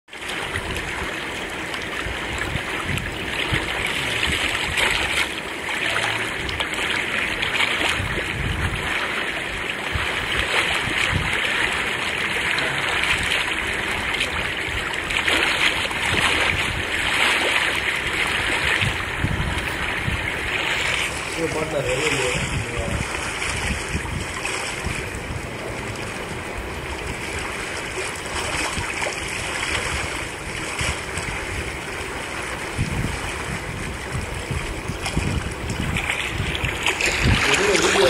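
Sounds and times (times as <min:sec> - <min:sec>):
running bubbling water: 0:00.1 - 0:38.0.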